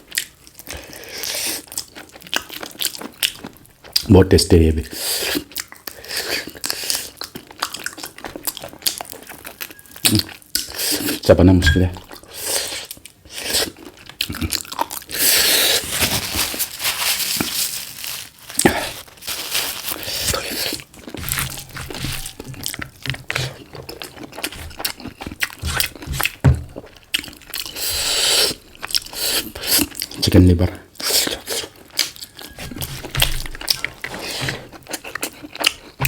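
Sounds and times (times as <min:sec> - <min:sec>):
chewing and crunching chicken: 0:00.0 - 0:11.3, 0:12.0 - 0:36.0.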